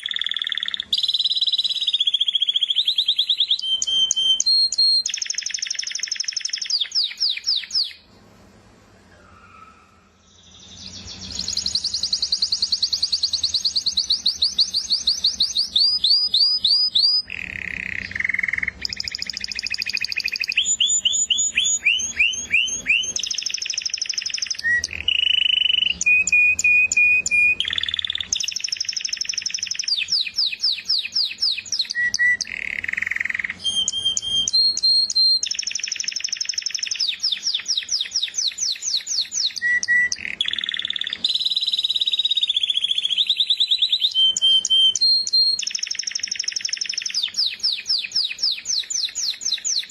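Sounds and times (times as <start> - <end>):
canary singing trills: 0.0 - 8.1, 9.3 - 49.9.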